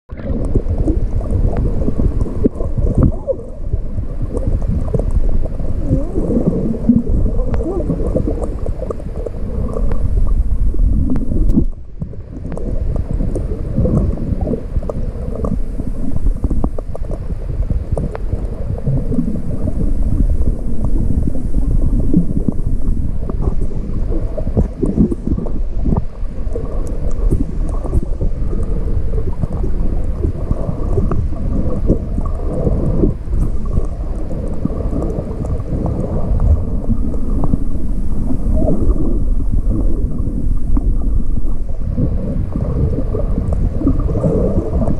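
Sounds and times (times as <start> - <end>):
muffled underwater rumble: 0.0 - 44.9.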